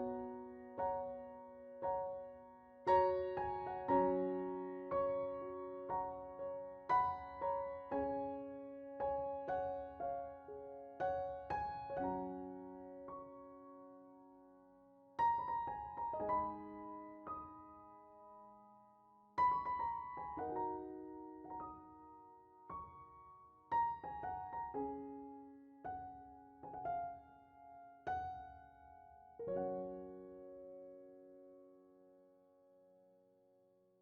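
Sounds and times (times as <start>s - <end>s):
slow piano music: 0.0s - 33.4s.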